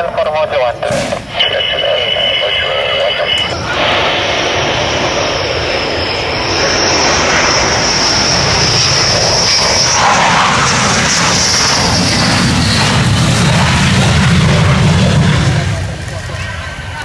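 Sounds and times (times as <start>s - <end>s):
high-pitched jet whine: 0.0s - 17.0s
jet engine roar: 0.0s - 17.0s.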